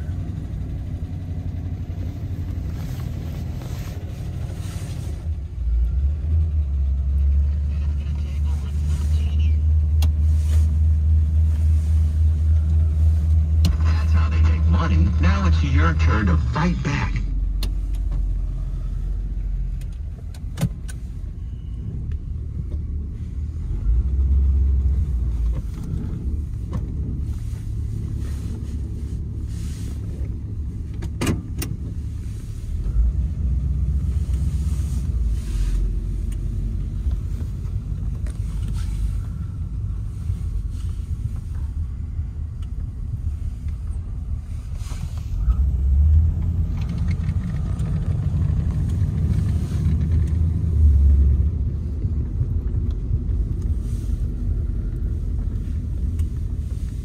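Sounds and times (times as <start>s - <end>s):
car engine rumble from inside cabin: 0.0s - 57.0s.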